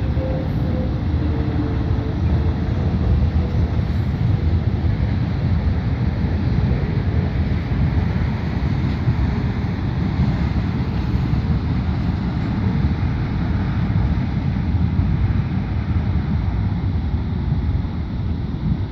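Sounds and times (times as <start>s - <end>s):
distant freight train running: 0.0s - 18.9s
wind buffeting microphone: 0.0s - 18.9s.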